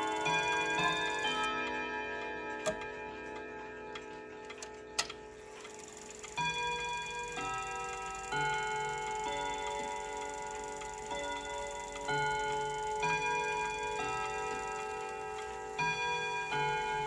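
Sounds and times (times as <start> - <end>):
clock chime melody: 0.0 - 17.0
clock movement clicks: 0.0 - 17.0.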